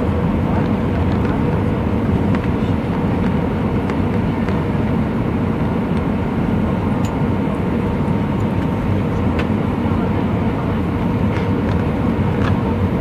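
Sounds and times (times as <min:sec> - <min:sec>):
airliner low rumble: 0:00.0 - 0:13.0.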